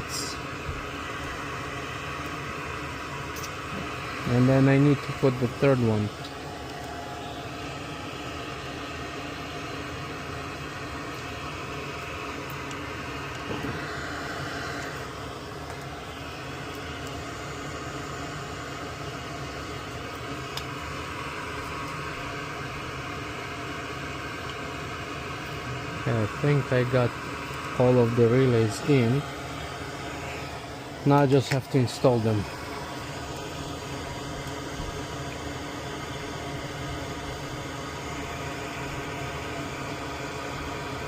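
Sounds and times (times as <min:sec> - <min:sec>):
mechanical hum and hiss: 0:00.0 - 0:41.0.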